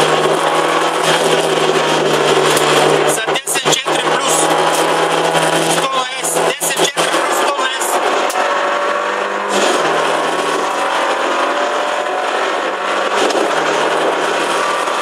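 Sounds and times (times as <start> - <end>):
car engine running: 0.0 - 15.0
road and wind noise: 0.0 - 15.0.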